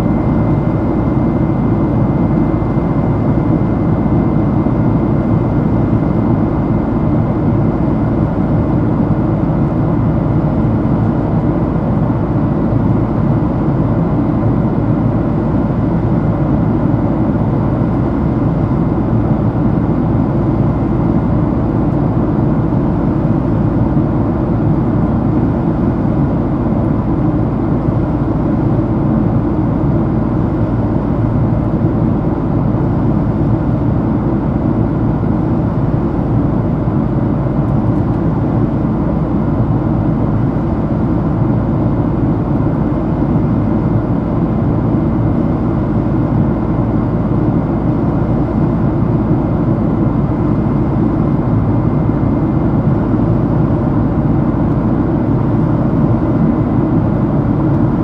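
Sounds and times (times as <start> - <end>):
airliner cabin engine noise: 0.0 - 58.0.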